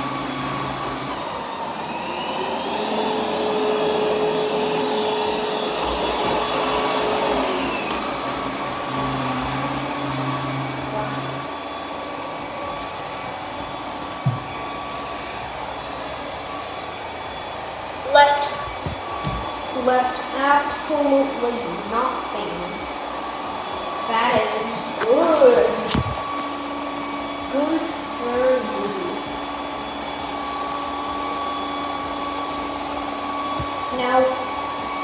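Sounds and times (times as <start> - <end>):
robot vacuum motor whine: 0.0 - 35.0.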